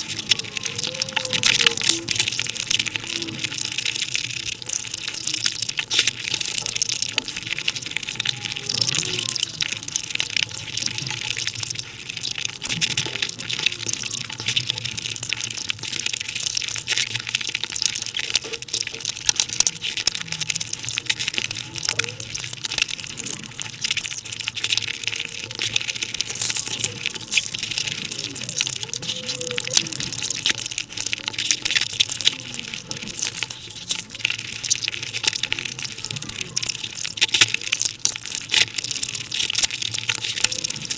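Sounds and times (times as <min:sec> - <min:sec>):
sped-up wet chewing crackle: 0:00.0 - 0:40.9.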